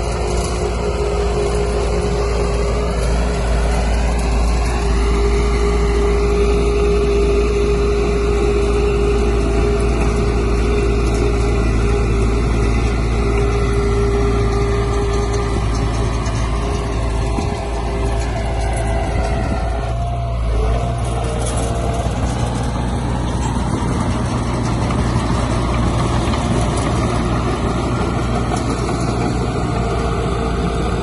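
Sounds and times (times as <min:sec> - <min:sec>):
diesel engine running: 0:00.0 - 0:31.0
whining tone: 0:00.0 - 0:31.0.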